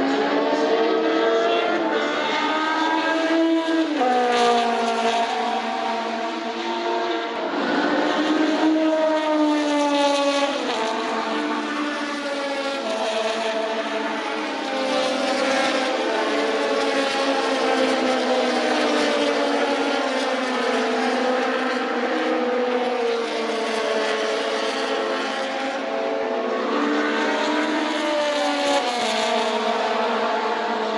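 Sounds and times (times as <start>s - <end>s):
racing car engines at high revs: 0.0s - 30.9s.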